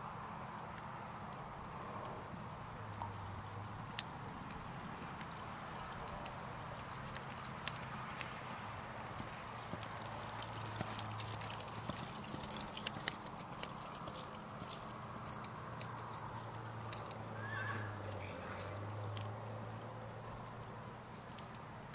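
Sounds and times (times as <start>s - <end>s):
hoofbeats on soft dirt: 0.0s - 21.9s.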